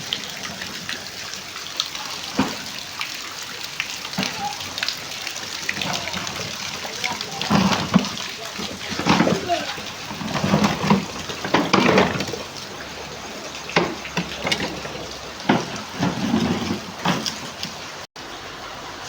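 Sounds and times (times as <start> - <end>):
falling rain: 0.0 - 19.0
loud water splashes: 0.0 - 19.0.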